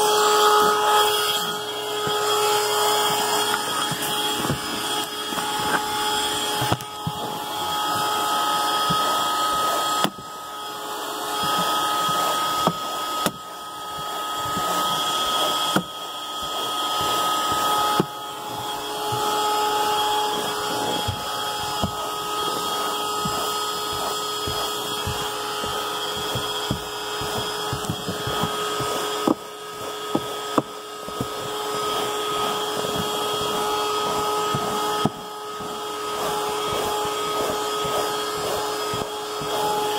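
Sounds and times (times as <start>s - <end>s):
nozzle scrubbing carpet: 0.0s - 39.9s
vacuum cleaner whining: 0.0s - 39.9s.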